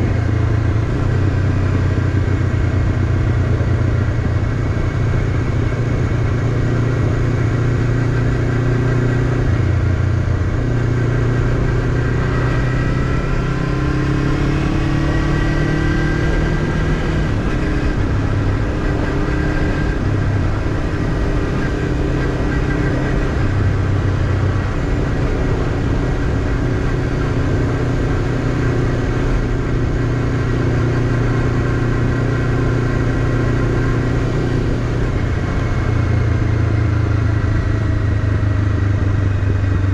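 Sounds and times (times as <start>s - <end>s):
constant rushing noise: 0.0s - 39.9s
motorcycle engine cruising: 0.0s - 39.9s.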